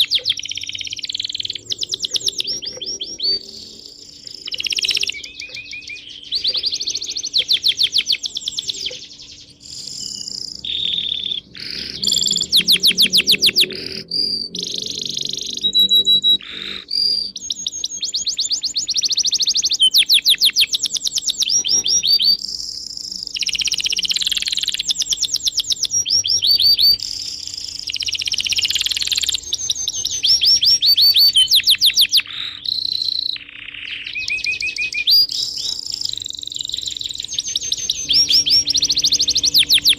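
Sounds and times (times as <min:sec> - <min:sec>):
fast bird trills: 0:00.0 - 0:39.9
songbirds chirping: 0:00.0 - 0:39.9.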